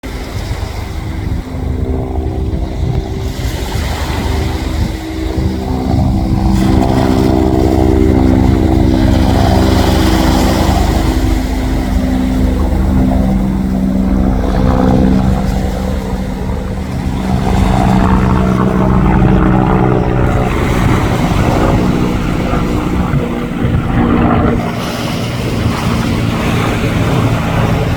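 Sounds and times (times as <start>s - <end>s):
heavy low rumble: 0.0s - 27.9s
motor engine running: 0.0s - 27.9s.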